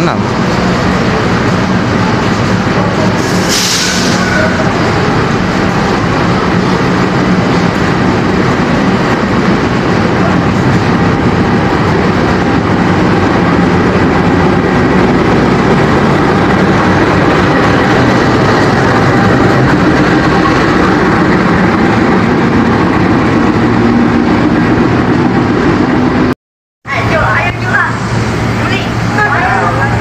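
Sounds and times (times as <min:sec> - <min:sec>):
locomotive engine low drone: 0:00.0 - 0:30.0.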